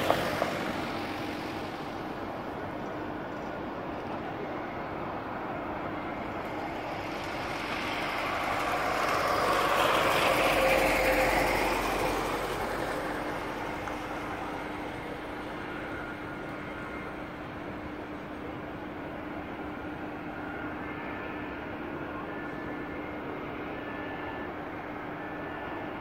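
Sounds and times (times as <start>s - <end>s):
airliner jet engines running: 0.0s - 26.0s.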